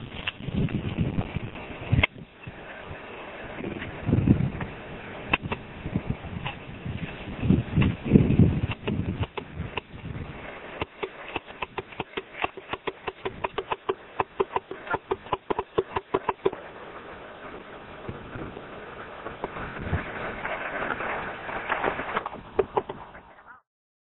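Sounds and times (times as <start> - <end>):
cart wheels crunching gravel: 0.0 - 23.5.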